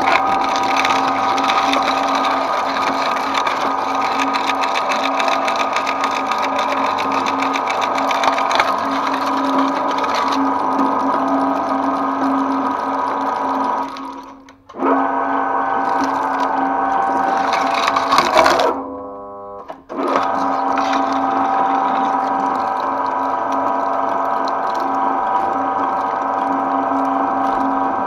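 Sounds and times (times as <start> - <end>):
cutters crackling through foil: 0.0 - 14.5, 15.8 - 18.8, 20.0 - 28.0
shredder motor hum: 0.0 - 28.0.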